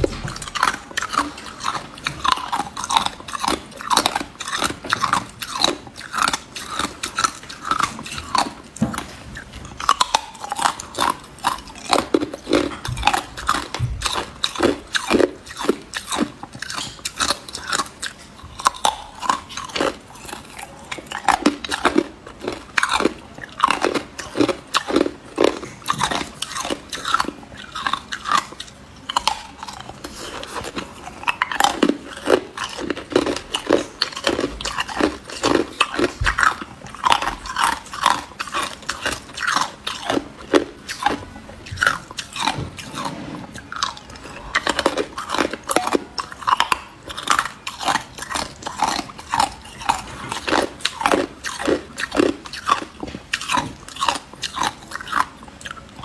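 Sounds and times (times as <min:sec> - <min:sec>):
ice cubes being chewed: 0:00.0 - 0:56.0.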